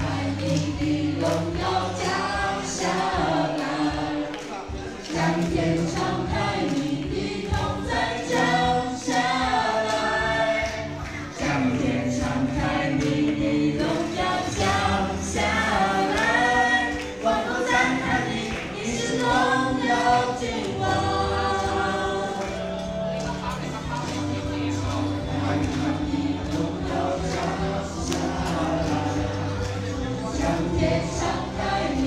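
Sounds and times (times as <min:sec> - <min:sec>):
group singing a hymn: 0:00.0 - 0:32.0.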